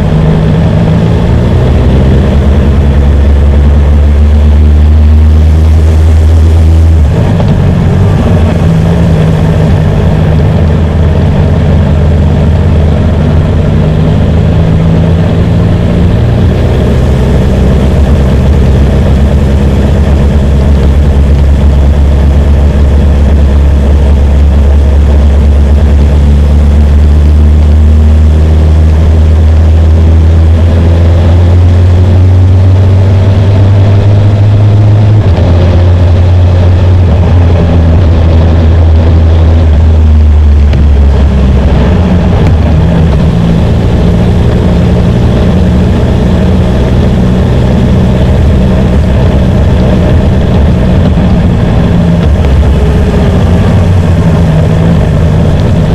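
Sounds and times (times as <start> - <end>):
motorcycle engine low drone: 0.0 - 55.9.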